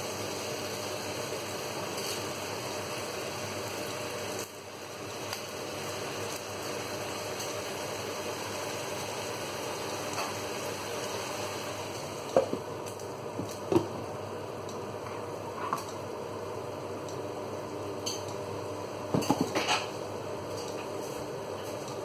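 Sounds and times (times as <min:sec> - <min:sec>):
food sizzling in saucepan: 0:00.0 - 0:22.0.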